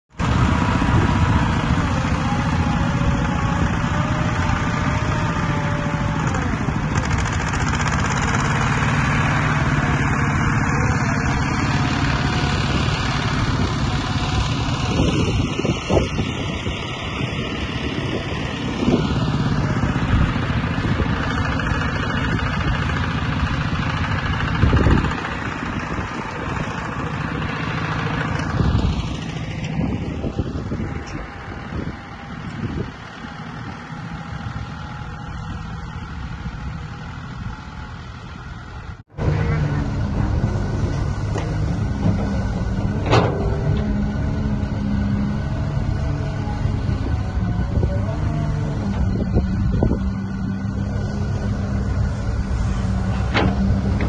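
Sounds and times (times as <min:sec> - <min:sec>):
heavy machinery engine running: 0:00.1 - 0:54.0.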